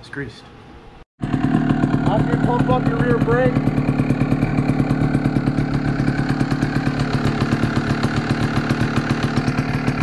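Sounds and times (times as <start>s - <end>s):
motorcycle engine idling: 1.2s - 10.0s.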